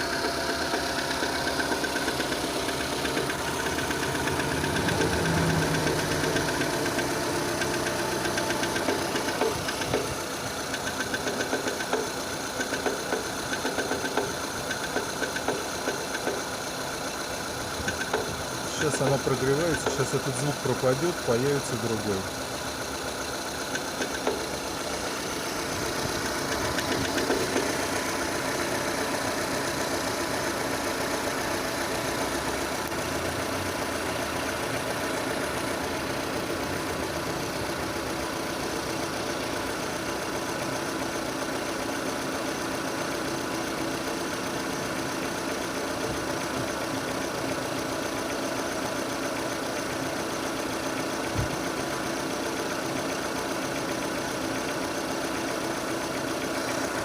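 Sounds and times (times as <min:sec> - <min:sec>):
car engine idling: 0:00.0 - 0:57.0
regular engine knock: 0:00.0 - 0:57.0.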